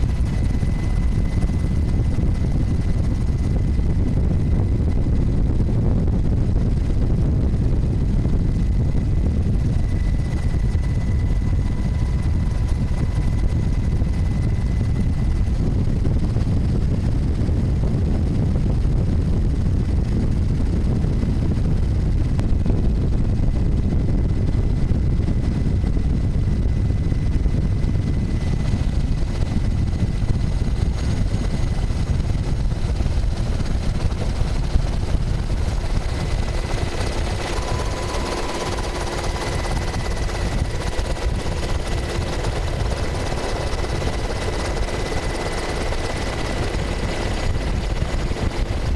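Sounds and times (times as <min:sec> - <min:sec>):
faint steady whine: 0:00.0 - 0:48.9
helicopter rotor and engine rumble: 0:00.0 - 0:48.9.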